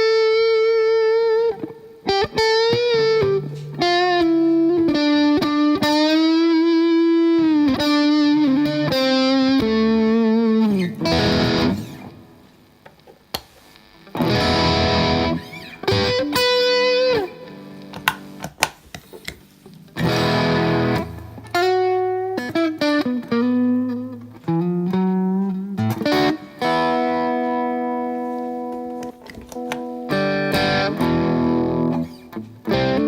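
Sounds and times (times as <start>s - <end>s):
strummed guitar chords: 0.0s - 12.8s, 13.9s - 18.6s, 19.7s - 33.0s
overdriven electric guitar lead: 0.0s - 33.0s.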